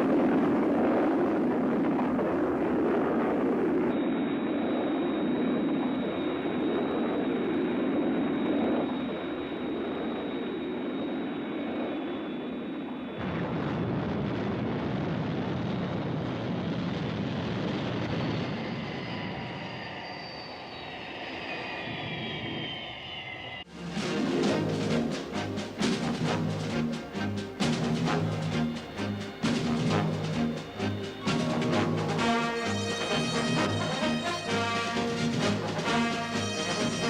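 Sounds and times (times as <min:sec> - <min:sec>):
jet engine roar with whistle: 0:00.0 - 0:13.8, 0:14.4 - 0:23.7, 0:26.8 - 0:37.0.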